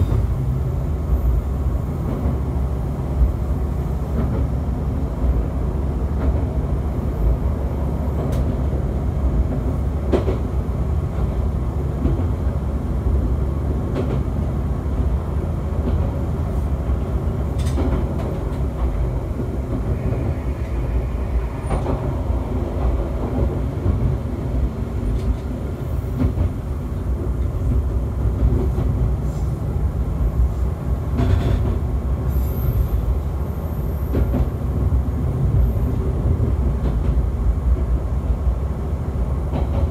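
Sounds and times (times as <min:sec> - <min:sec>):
railcar engine and wheels rumbling: 0:00.0 - 0:39.9.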